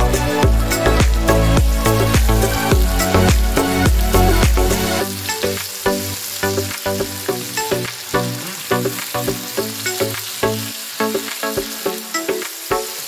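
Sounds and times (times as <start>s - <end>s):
background music with beat: 0.0s - 13.0s
vegetables sizzling in oil: 0.6s - 13.0s.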